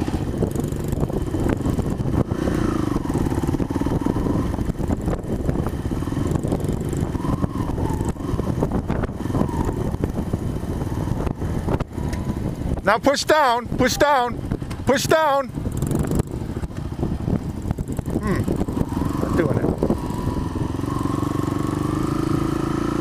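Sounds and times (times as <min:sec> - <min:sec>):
dirt bike engine revving: 0:00.0 - 0:12.4, 0:15.5 - 0:16.7, 0:17.5 - 0:23.0.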